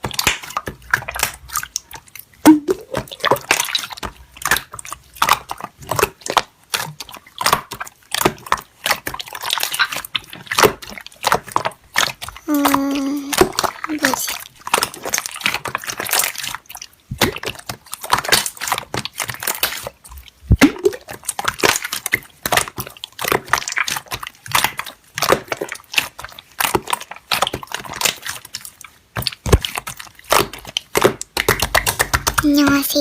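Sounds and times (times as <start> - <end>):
slime squished by hand: 0.0 - 33.0.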